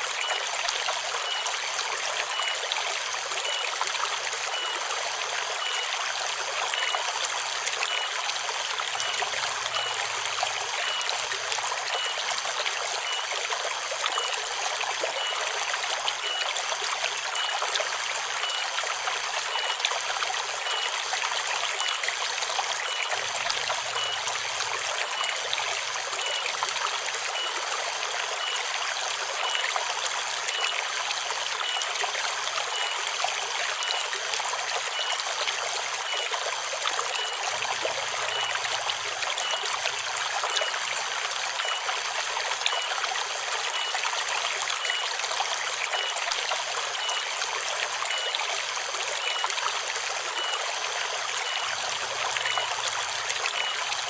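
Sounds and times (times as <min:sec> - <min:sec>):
river babbling: 0:00.0 - 0:54.0.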